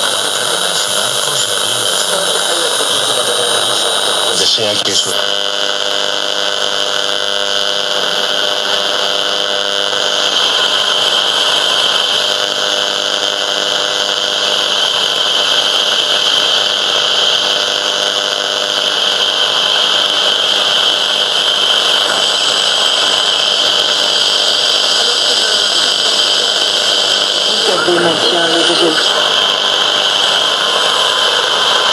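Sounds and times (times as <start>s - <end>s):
radio static hiss: 0.0s - 31.9s.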